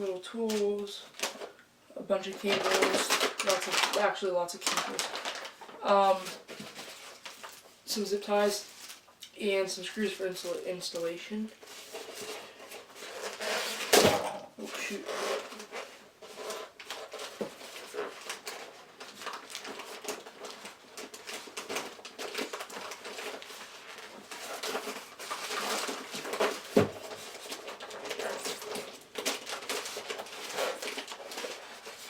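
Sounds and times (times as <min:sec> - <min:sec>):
packaging rustling and scraping: 0:00.4 - 0:01.6, 0:02.2 - 0:09.1, 0:10.0 - 0:32.0.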